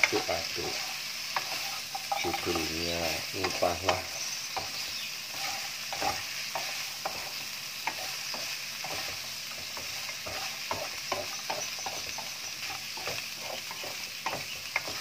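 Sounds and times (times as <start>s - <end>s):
fish sizzling in a wok: 0.0s - 15.0s
wooden spatula scraping and knocking: 0.0s - 15.0s.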